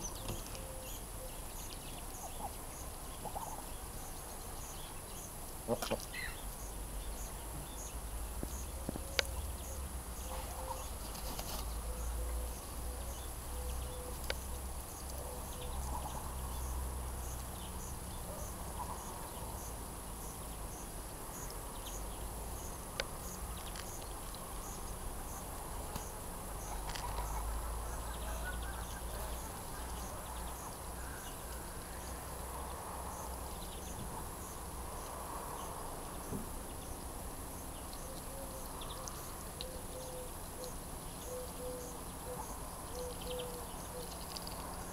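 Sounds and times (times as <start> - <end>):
insects chirping: 0.0 - 44.9
steady high hiss: 0.0 - 44.9.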